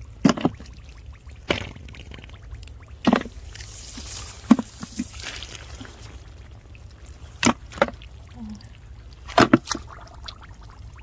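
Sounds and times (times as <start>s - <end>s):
sharp water splashes: 0.0s - 8.3s, 9.0s - 11.0s
muddy water sloshing: 0.0s - 11.0s.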